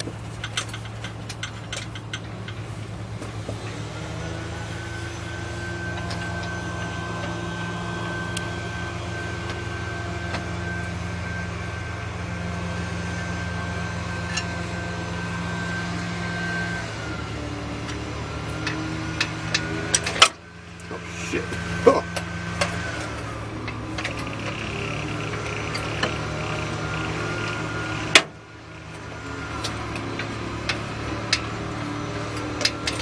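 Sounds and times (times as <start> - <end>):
motor humming and whining: 0.0 - 33.0.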